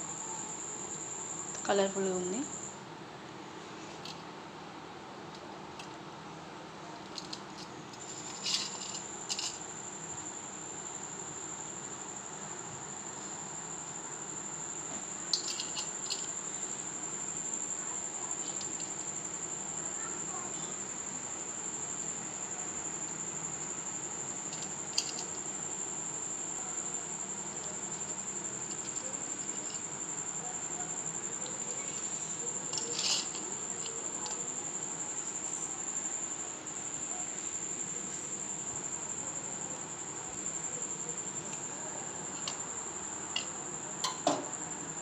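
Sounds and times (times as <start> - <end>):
cricket trilling: 0.0 - 2.9, 3.5 - 45.0.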